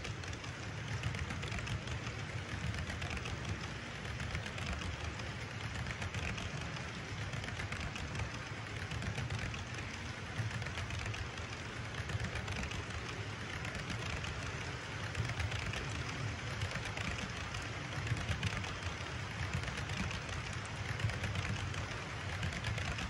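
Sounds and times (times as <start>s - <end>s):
model train wheels rattling on rails: 0.0s - 23.0s.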